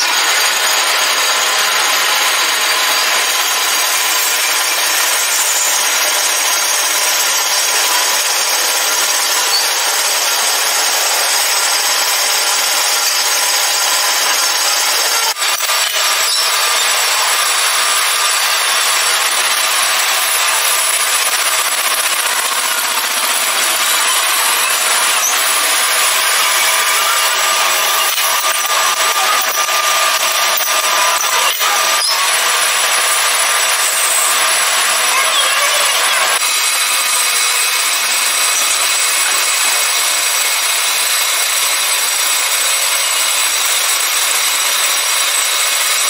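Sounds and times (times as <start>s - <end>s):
power tool rasping metal: 0.0s - 46.0s.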